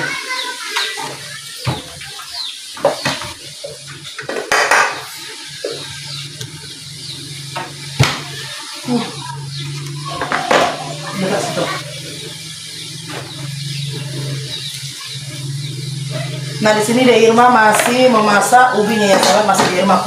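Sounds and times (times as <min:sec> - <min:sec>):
metal utensils and pots clattering: 0:00.0 - 0:20.0.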